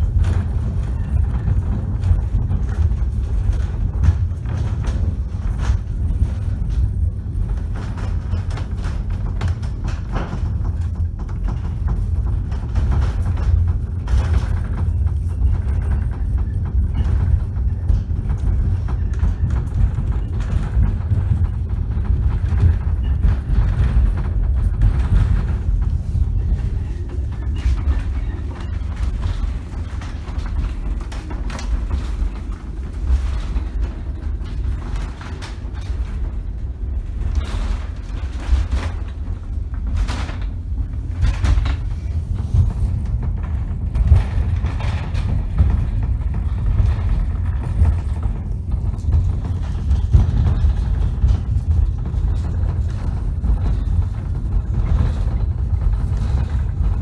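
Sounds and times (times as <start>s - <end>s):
funicular car low rumble: 0.0s - 57.0s
wheel clicks and knocks: 0.0s - 57.0s.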